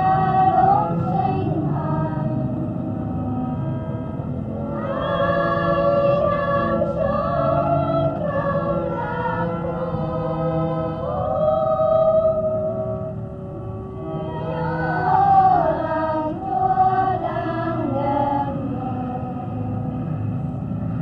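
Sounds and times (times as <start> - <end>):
person singing a hymn: 0.0 - 3.8, 4.5 - 20.2.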